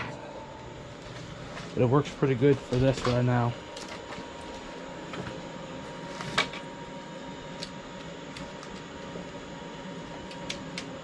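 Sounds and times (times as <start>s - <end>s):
fan-like mechanical hum: 0.0s - 11.0s.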